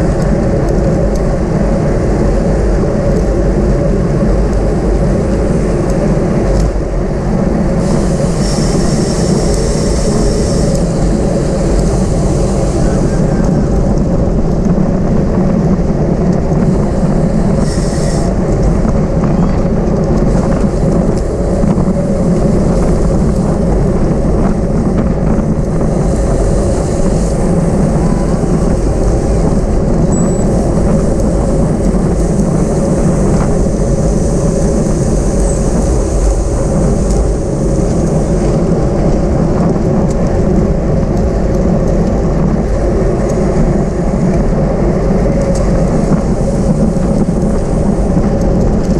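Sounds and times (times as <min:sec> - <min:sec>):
road and tyre noise: 0:00.0 - 0:48.9
wind rumble on microphone: 0:00.0 - 0:48.9.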